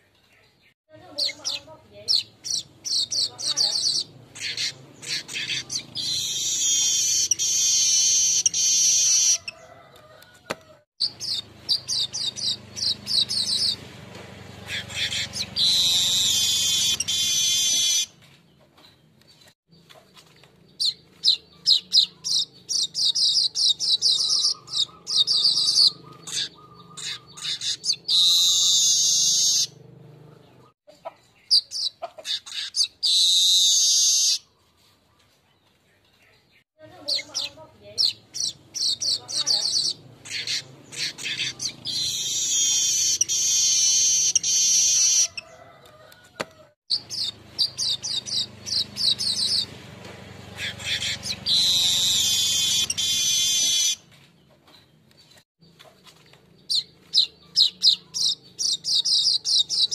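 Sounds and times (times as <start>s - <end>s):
weaver birds singing: 0.0s - 10.4s, 11.0s - 46.1s, 46.9s - 59.9s.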